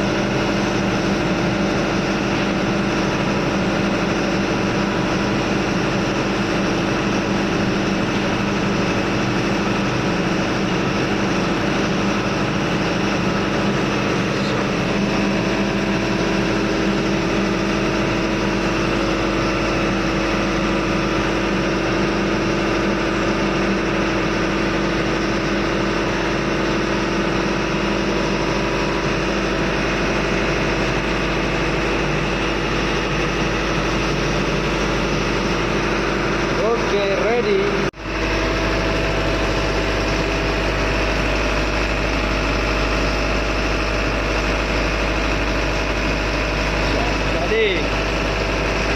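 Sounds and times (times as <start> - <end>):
diesel machinery droning: 0.0 - 48.9.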